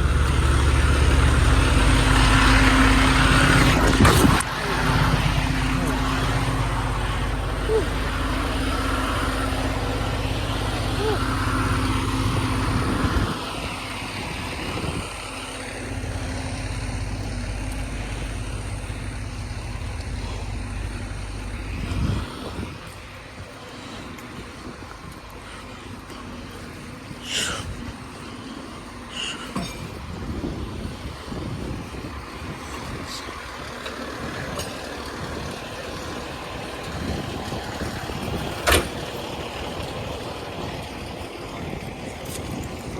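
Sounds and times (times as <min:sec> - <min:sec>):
wind noise on microphone: 0:00.0 - 0:26.0, 0:29.6 - 0:42.9
diesel engine droning: 0:00.0 - 0:42.9.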